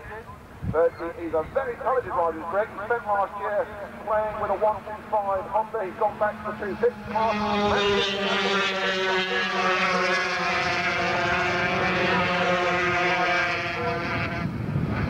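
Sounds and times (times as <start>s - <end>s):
racing motorcycles passing: 1.1s - 15.0s.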